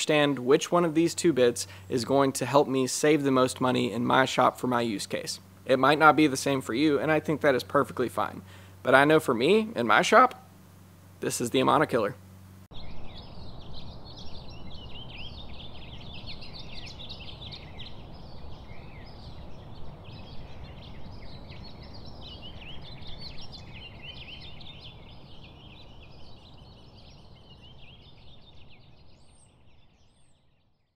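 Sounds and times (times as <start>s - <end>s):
small birds chirping: 0.0s - 30.9s
low background rumble: 3.4s - 30.3s.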